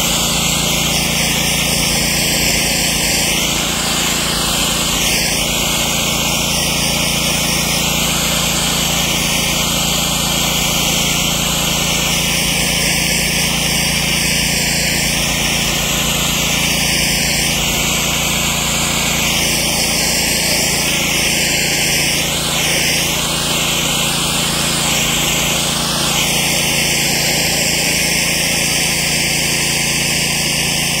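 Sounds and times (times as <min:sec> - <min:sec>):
hose water spraying on concrete: 0:00.0 - 0:31.0
motor humming: 0:00.0 - 0:31.0.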